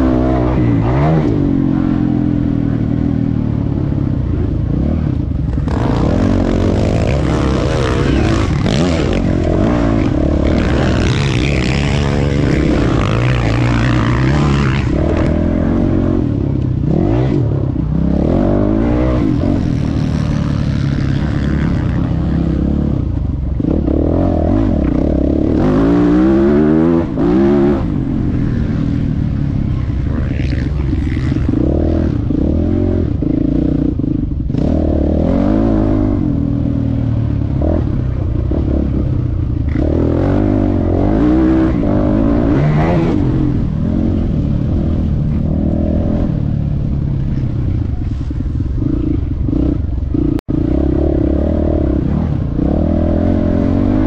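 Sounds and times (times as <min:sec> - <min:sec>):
motocross bike engine revving: 0:00.0 - 0:03.5, 0:04.7 - 0:54.0.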